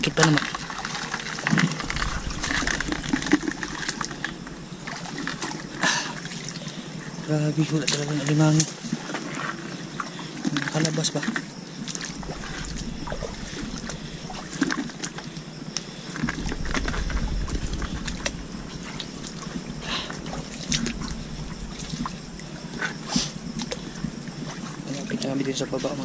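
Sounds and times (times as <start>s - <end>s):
small scattered clicks and crackles: 0.0s - 6.8s, 7.6s - 26.0s.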